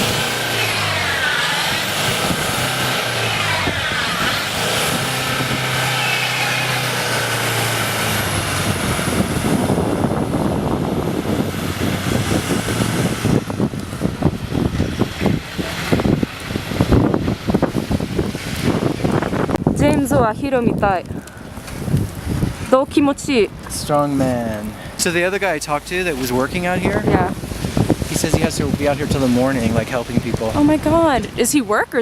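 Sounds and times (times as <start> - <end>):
car engine revving: 0.0 - 20.2, 21.5 - 31.6.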